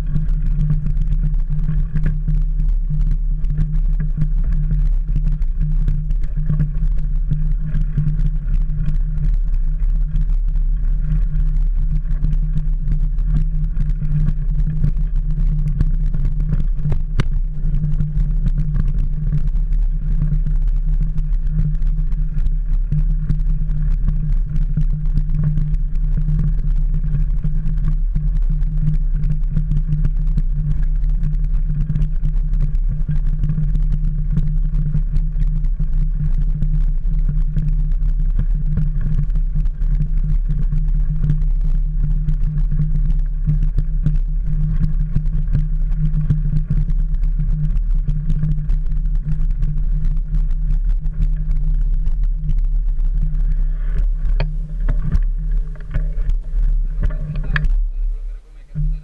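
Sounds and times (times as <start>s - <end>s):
bike rolling over gravel trail: 0.0s - 59.0s
camera vibration: 0.0s - 59.0s.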